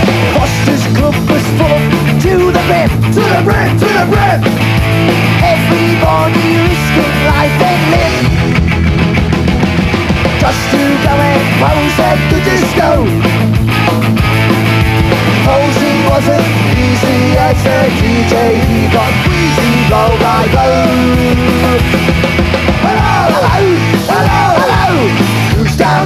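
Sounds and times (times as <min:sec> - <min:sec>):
punk rock band playing: 0:00.0 - 0:26.0.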